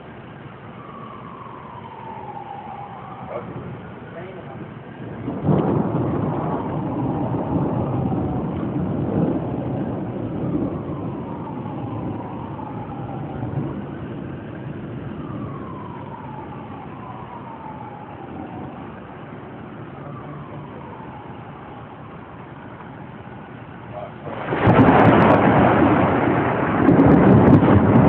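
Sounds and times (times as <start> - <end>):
thunder clap and rumble: 0.8 - 28.0.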